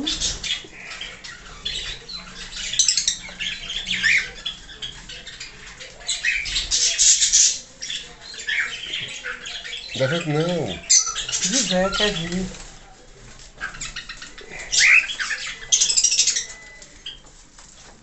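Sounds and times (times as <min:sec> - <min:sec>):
birds with scratchy calls: 0:00.0 - 0:17.3.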